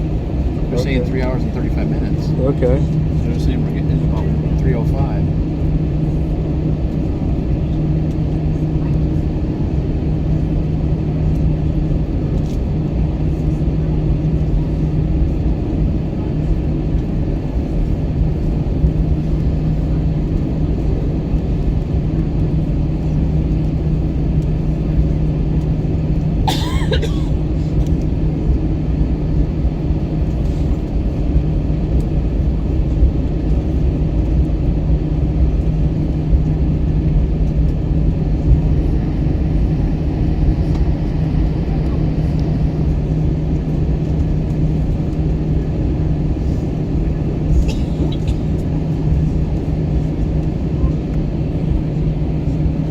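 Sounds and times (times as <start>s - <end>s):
airplane cabin rumble: 0.0s - 52.9s
engine and air system hum: 0.0s - 52.9s.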